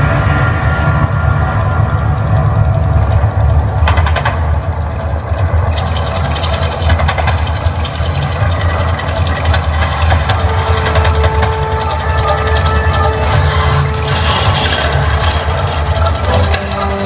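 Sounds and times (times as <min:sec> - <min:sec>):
deep continuous rumble: 0:00.0 - 0:17.0.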